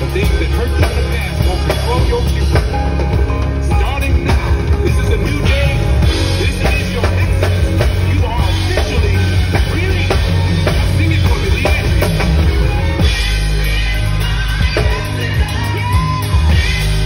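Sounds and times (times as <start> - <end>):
drum kit played live: 0.0 - 17.0
loud music from loudspeakers: 0.0 - 17.0.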